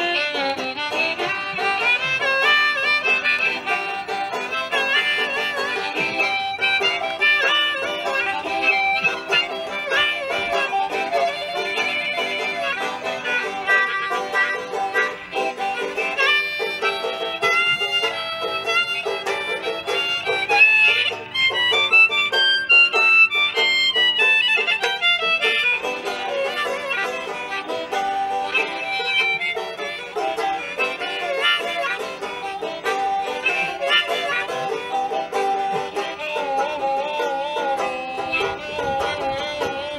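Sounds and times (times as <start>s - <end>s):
banjo picking: 0.0s - 39.9s
harmonica playing: 0.0s - 39.9s.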